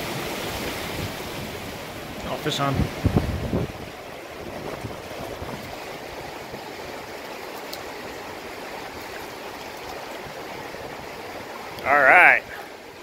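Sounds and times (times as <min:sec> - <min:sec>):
river water running over rocks: 0:00.0 - 0:13.0.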